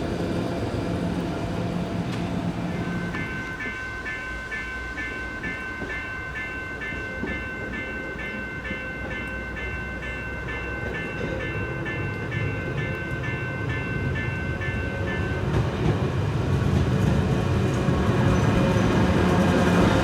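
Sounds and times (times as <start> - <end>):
railway warning signal ringing: 0.0 - 20.0.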